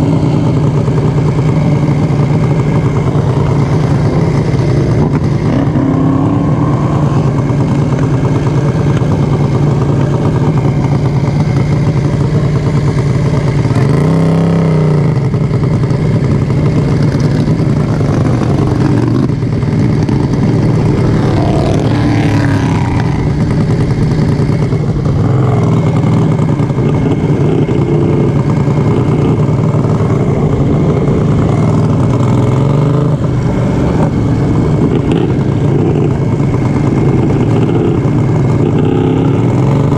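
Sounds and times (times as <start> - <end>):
lawnmower engine at full throttle: 0.0 - 39.9.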